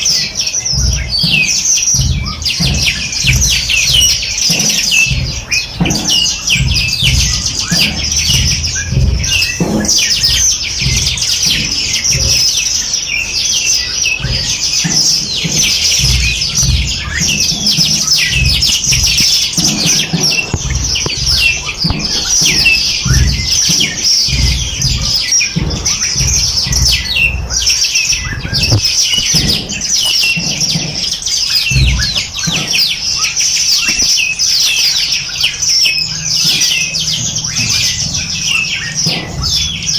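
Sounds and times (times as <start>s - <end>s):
low thumps: 0.0s - 34.2s
small birds chirping and trilling: 0.0s - 39.9s.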